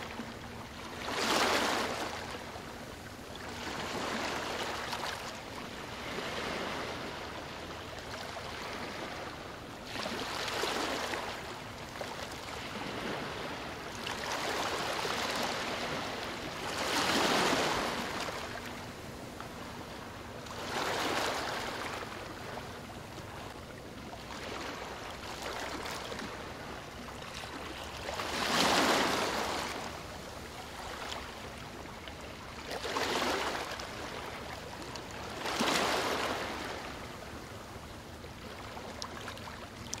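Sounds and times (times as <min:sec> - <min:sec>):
small waves sloshing and lapping: 0:00.0 - 0:40.0.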